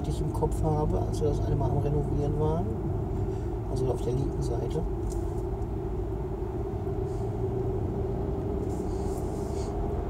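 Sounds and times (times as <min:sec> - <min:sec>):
car interior engine and tyre rumble: 0:00.0 - 0:10.0.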